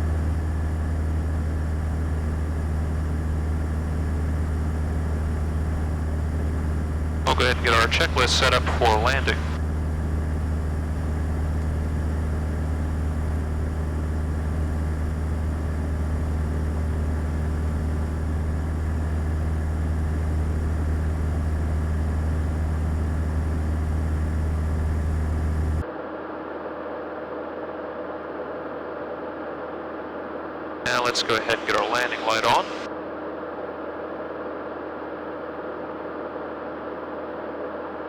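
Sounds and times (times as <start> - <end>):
propeller aircraft engine droning: 0.0 - 25.8, 30.9 - 38.0.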